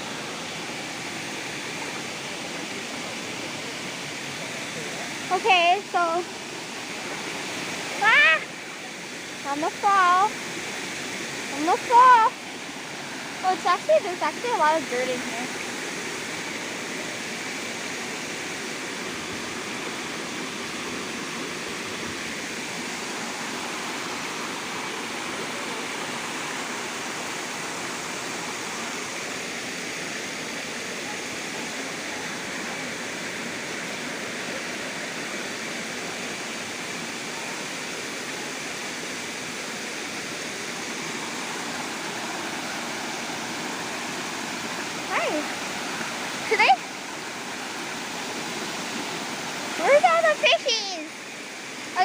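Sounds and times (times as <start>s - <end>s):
waterfall and stream rushing: 0.0s - 52.0s.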